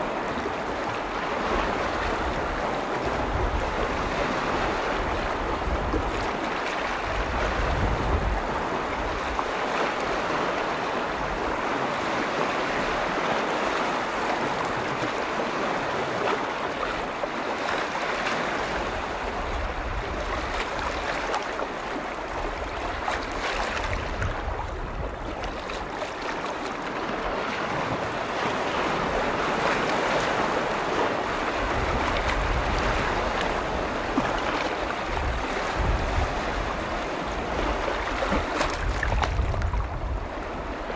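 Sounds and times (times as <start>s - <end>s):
waves washing against shore: 0.0s - 40.9s
wind rumble on microphone: 0.0s - 40.9s.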